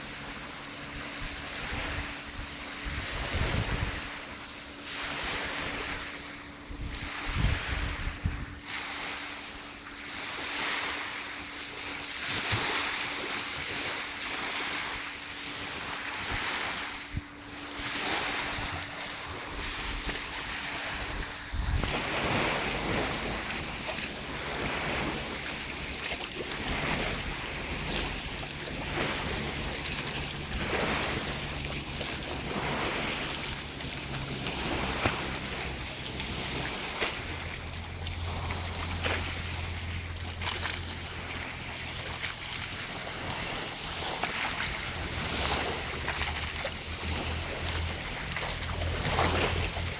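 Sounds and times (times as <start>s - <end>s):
wind on microphone: 0.0s - 9.2s, 13.8s - 49.9s
small waves splashing: 0.0s - 49.9s.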